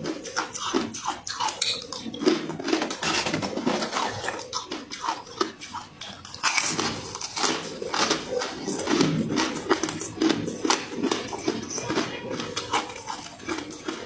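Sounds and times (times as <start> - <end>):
person crunching ice: 0.0 - 14.0.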